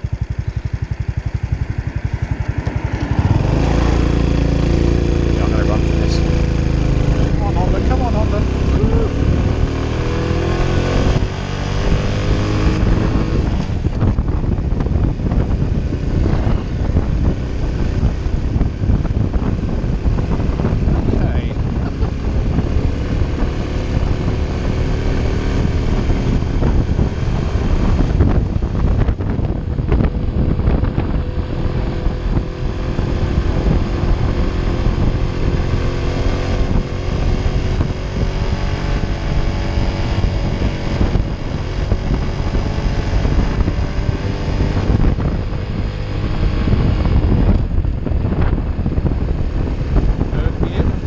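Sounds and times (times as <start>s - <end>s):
motorcycle engine under load: 0.0s - 51.0s
wind rumble on microphone: 0.0s - 51.0s.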